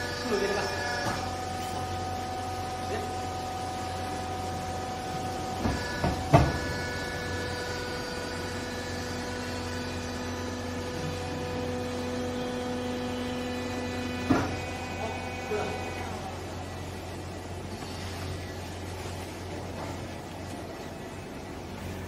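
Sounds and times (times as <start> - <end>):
hydraulic baler motor whine: 0.0 - 22.0.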